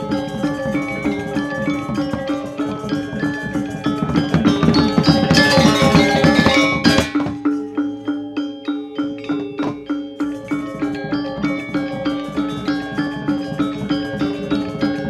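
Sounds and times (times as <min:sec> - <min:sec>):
metallophones and gongs playing: 0:00.0 - 0:15.0.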